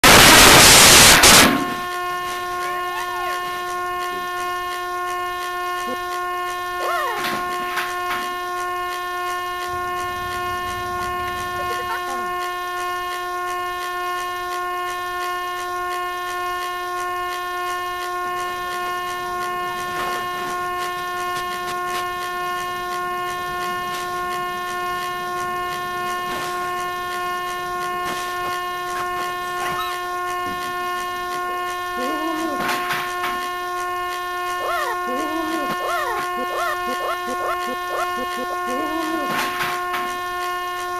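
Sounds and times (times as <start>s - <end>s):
steady horn-like tone: 0.0s - 16.2s, 16.8s - 40.9s.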